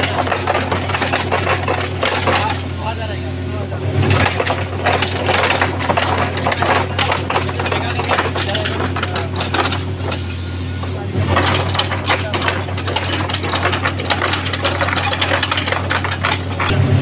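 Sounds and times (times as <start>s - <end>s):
metal clanks and knocks: 0.0s - 3.1s, 4.0s - 17.0s
drilling machine engine running: 0.0s - 17.0s.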